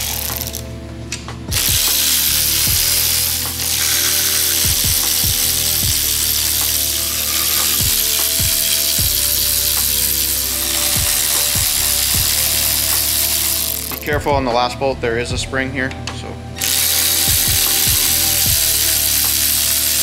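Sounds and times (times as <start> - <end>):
electric ratchet running: 0.0 - 0.6, 1.5 - 14.3, 16.6 - 20.0
background music with a beat: 0.0 - 20.0.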